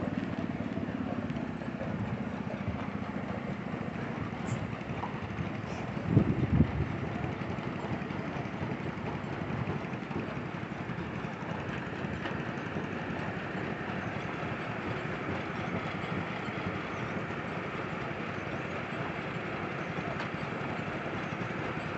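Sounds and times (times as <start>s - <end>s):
engine running: 0.0s - 21.9s.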